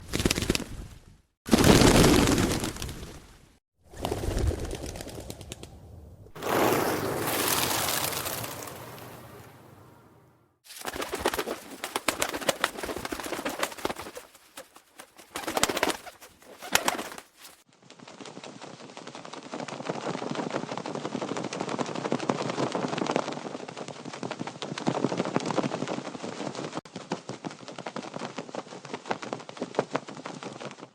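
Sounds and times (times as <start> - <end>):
birds' wings flapping: 0.0 - 5.7, 6.4 - 9.5, 10.7 - 30.9.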